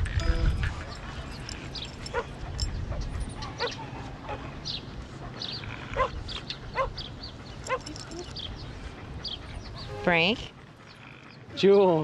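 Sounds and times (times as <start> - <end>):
dogs yipping and whining: 0.8 - 11.7.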